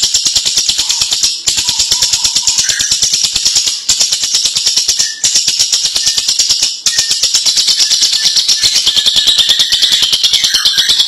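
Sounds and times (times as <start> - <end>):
lovebird rattling chatter: 0.0 - 11.0.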